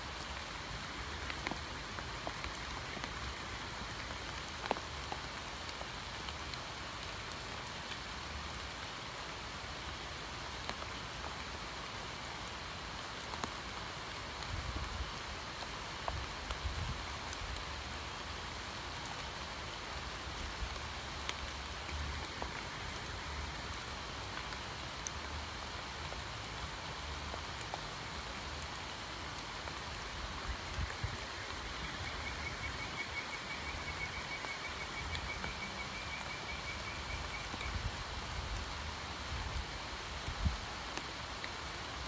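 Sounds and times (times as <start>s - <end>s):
rain falling on pond water: 0.0s - 42.0s.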